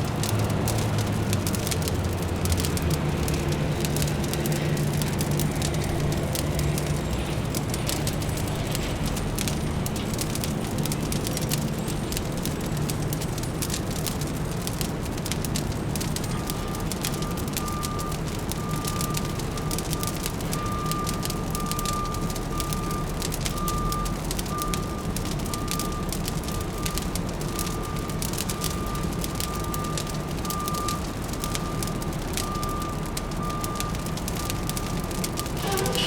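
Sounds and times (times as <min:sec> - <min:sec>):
fire crackling: 0:00.0 - 0:36.0
low city hum: 0:00.0 - 0:36.0
vehicle reversing alarm beeping: 0:01.4 - 0:36.0.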